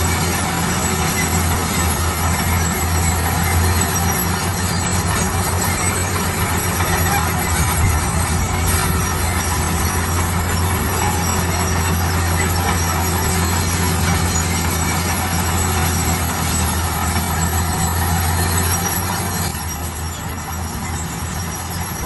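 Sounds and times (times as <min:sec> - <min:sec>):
heavy machine diesel drone: 0:00.0 - 0:22.0
noisy machine clatter: 0:00.0 - 0:22.0.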